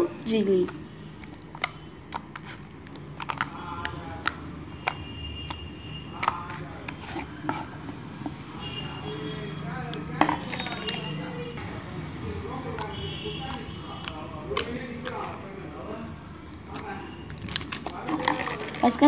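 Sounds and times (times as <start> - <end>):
slime squelching and popping: 1.2 - 8.8, 9.8 - 11.2, 12.5 - 19.0.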